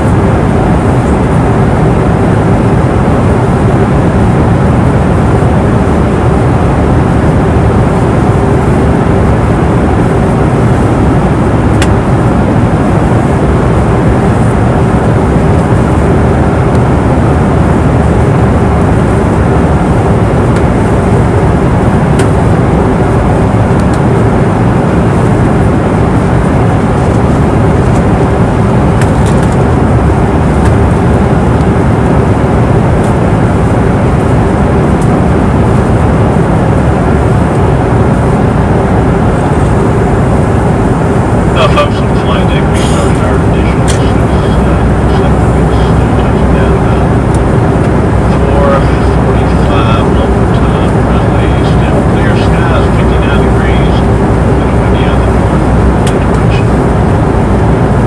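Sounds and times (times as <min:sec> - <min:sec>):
air rush and engine drone: 0:00.0 - 0:58.0
steady hum: 0:00.0 - 0:58.0.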